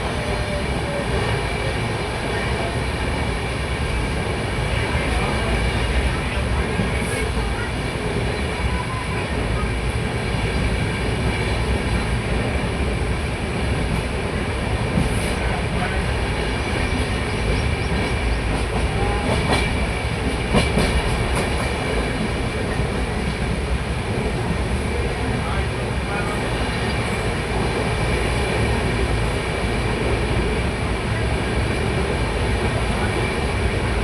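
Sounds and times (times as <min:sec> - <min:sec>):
train rumbling on track: 0:00.0 - 0:34.0.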